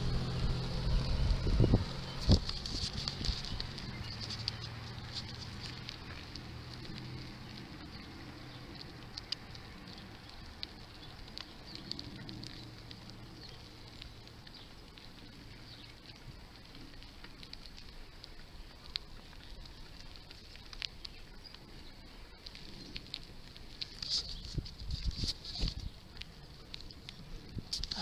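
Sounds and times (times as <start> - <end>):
bicycle tyre and wind rush: 0.0 - 28.0
light clicks and ticks: 2.1 - 28.0.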